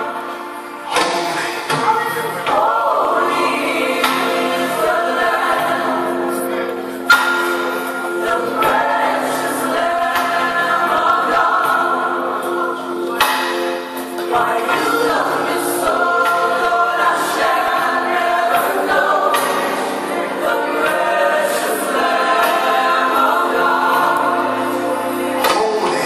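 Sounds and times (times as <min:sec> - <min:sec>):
choir singing gospel song: 0:00.0 - 0:26.0.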